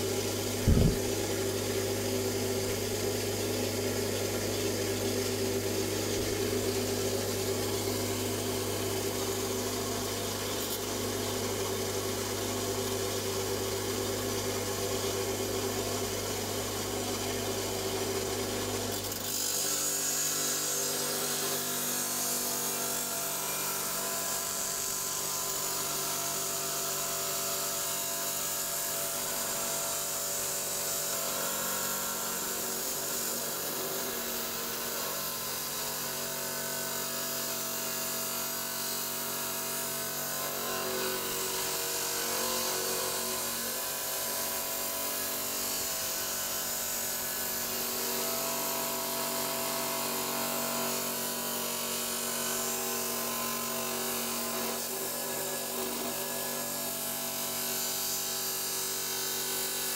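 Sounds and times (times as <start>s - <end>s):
hiss of saw cutting stone: 0.0s - 59.9s
stone saw humming: 0.0s - 59.9s.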